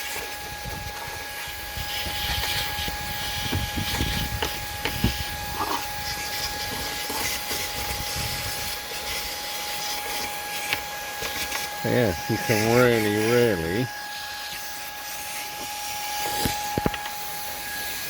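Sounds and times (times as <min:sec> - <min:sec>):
cordless vacuum whining: 0:00.0 - 0:18.0.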